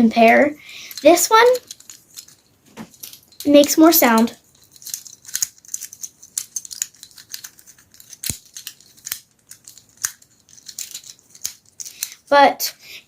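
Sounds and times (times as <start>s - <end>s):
fidget toy clicking: 0.7s - 2.4s, 3.4s - 12.3s.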